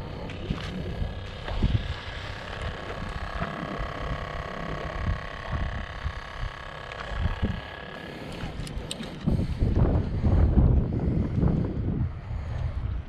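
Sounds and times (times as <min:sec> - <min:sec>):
faint steady hum: 0:00.0 - 0:13.0
wind buffeting microphone: 0:00.0 - 0:13.0.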